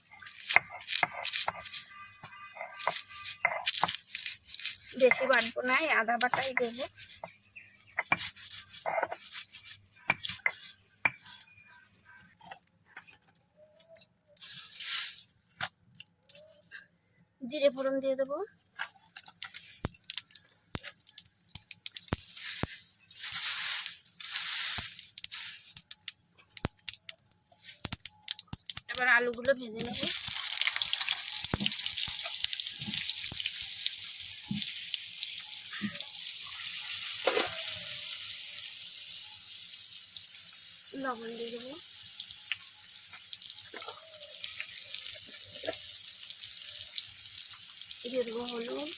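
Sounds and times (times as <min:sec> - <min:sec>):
potatoes sizzling in oil: 0:00.0 - 0:12.3, 0:19.6 - 0:26.8, 0:27.6 - 0:48.9.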